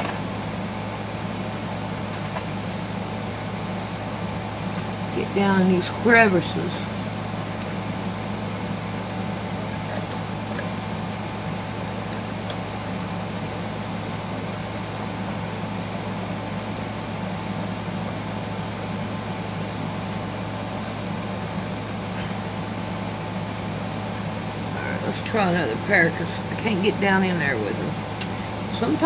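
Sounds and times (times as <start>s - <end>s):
fan drone with hiss: 0.0s - 29.0s.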